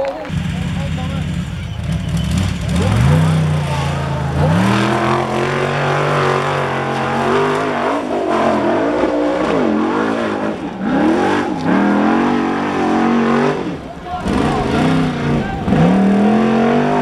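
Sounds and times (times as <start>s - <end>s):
buggy engine revving: 0.0s - 17.0s.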